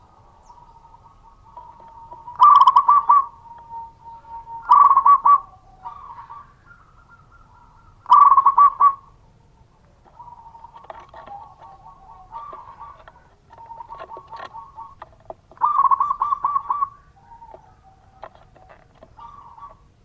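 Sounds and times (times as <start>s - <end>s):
dove cooing: 0.0s - 20.0s
faint steady tone: 0.0s - 20.0s.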